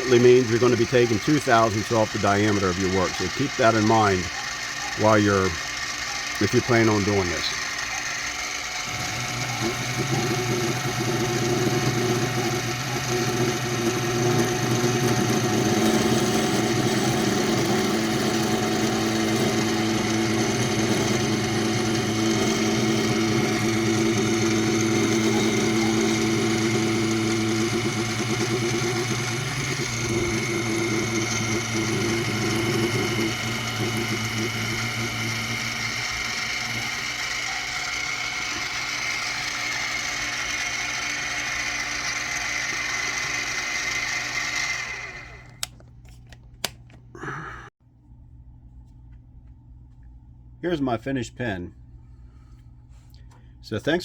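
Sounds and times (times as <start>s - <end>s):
mini mill running: 0.0s - 47.7s.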